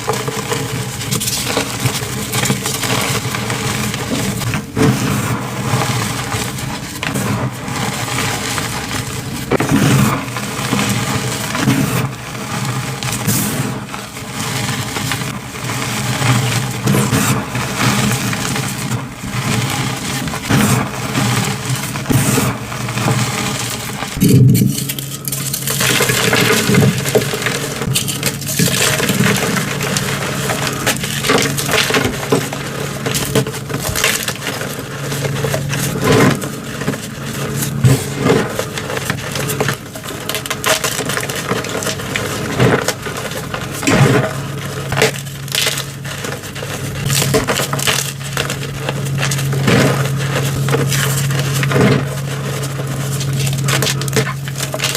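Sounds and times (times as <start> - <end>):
chalk crunching and crackling: 0.0 - 54.9.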